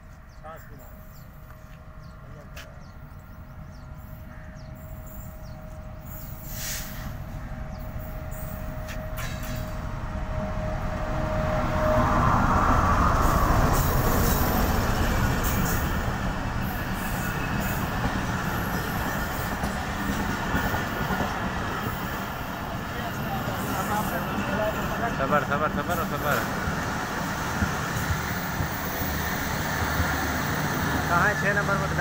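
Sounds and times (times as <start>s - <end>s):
diesel locomotive passing: 0.0s - 32.0s.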